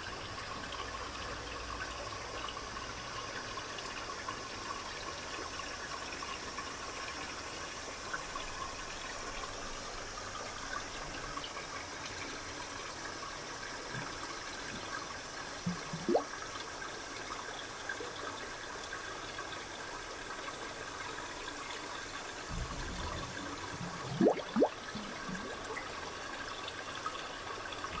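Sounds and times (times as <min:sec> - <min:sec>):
aquarium water circulating: 0:00.0 - 0:28.0.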